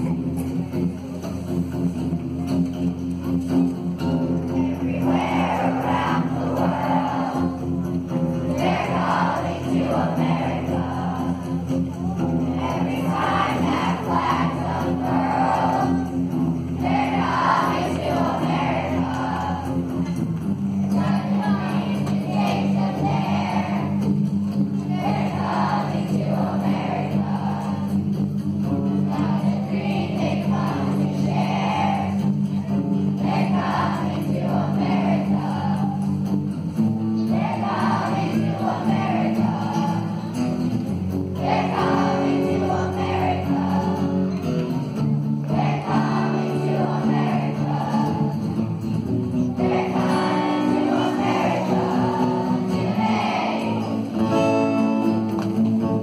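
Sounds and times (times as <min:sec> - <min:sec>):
acoustic guitar: 0:00.0 - 0:56.0
children singing together: 0:04.4 - 0:24.1, 0:24.7 - 0:28.2, 0:28.8 - 0:36.3, 0:37.2 - 0:40.7, 0:41.3 - 0:44.7, 0:45.5 - 0:55.0.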